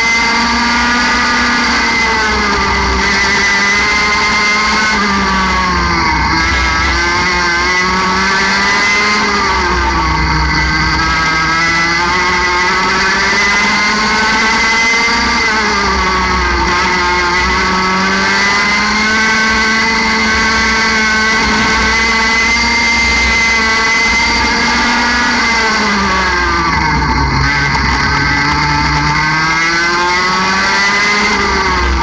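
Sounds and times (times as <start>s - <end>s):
two-stroke kart engine revving: 0.0s - 32.0s.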